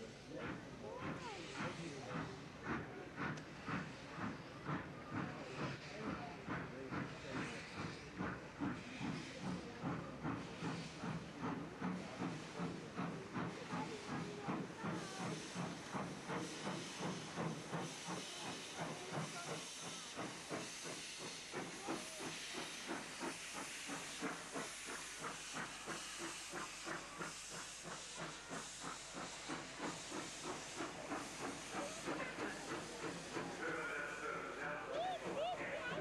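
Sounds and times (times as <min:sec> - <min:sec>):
hiss of steam: 0:00.0 - 0:36.0
steam locomotive chuffing: 0:00.0 - 0:36.0.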